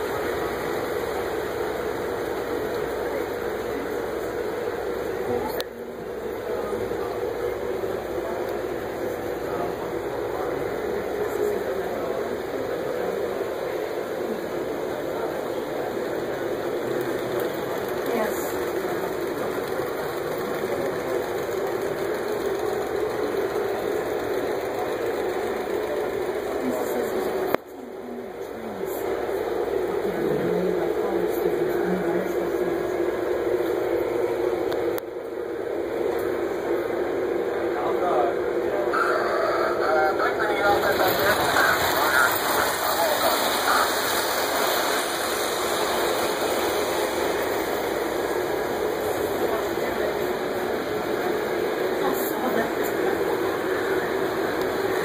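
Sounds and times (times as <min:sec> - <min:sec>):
model trains running on track: 0:00.0 - 0:55.0.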